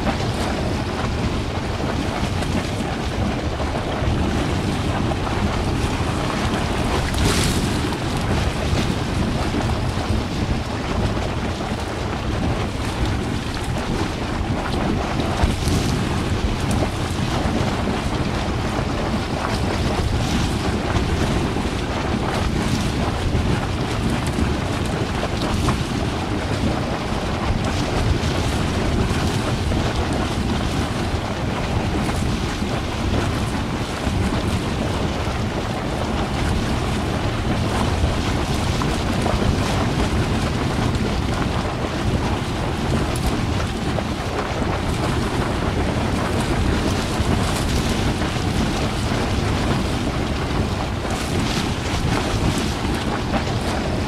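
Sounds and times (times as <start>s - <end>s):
hot spring gurgling: 0.0s - 54.0s.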